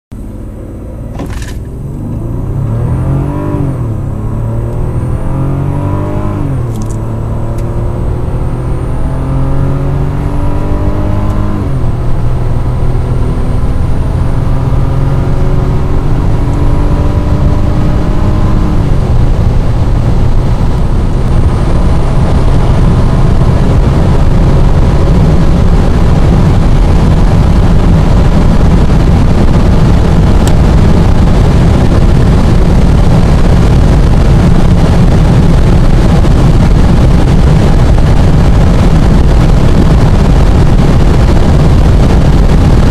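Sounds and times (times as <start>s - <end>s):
car engine accelerating: 0.1s - 42.9s
wind and road noise: 0.1s - 42.9s.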